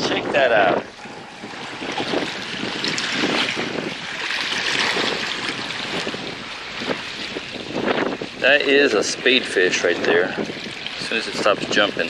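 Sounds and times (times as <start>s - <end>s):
waves washing against rocks: 0.0s - 12.0s
wind buffeting microphone: 0.0s - 12.0s.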